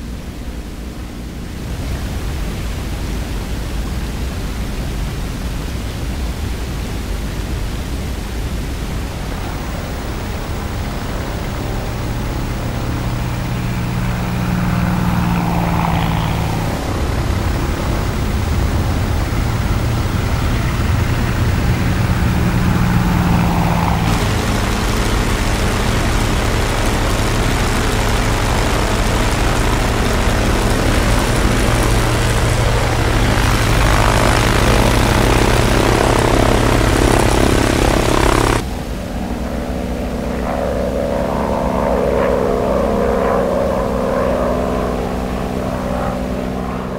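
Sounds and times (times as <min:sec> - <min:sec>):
propeller aircraft engine droning: 0:00.0 - 0:46.9.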